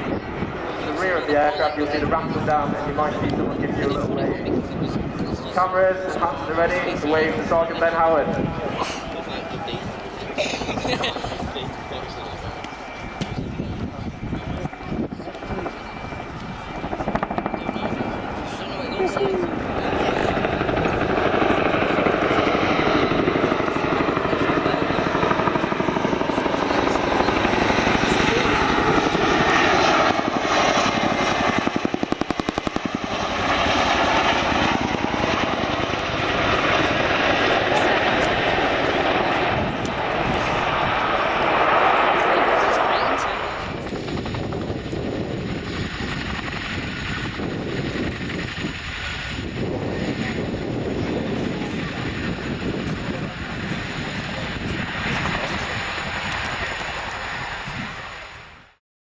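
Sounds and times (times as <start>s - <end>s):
helicopter rotors beating: 0.0s - 58.8s
turbine engines rushing: 0.0s - 58.8s.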